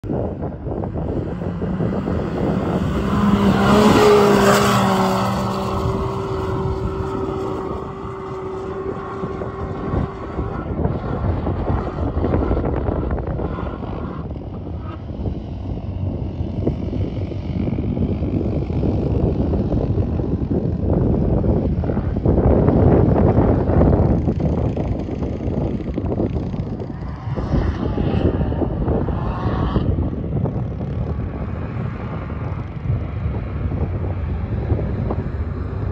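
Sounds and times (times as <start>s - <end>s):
utv engine running hard: 0.0s - 35.9s.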